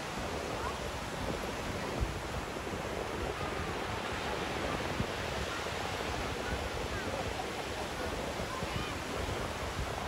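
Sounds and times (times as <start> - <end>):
ocean surf rushing: 0.0 - 10.0.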